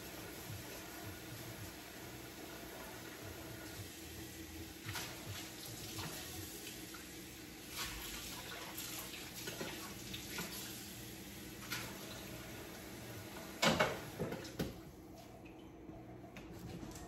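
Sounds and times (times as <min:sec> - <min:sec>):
faucet water running into sink: 0:00.2 - 0:14.6.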